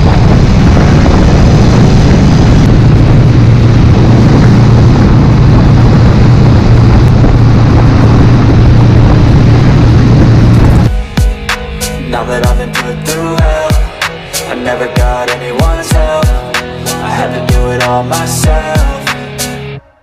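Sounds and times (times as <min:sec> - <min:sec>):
motorcycle engine running: 0:00.0 - 0:19.4.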